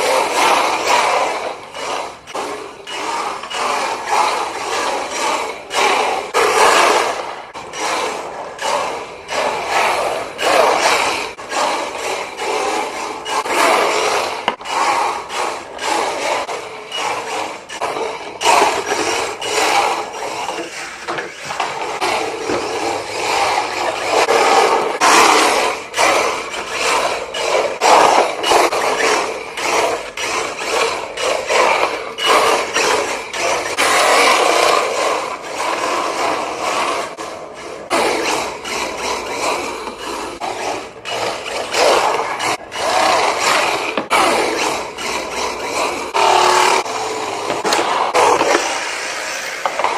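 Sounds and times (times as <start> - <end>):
hard tyres scraping floor: 0.0 - 49.9
rc car motor whirring: 0.0 - 49.9.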